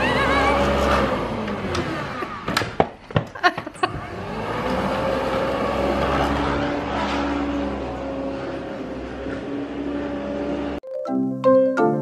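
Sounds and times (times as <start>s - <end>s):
electric lawnmower motor: 0.0s - 2.8s, 3.8s - 10.8s.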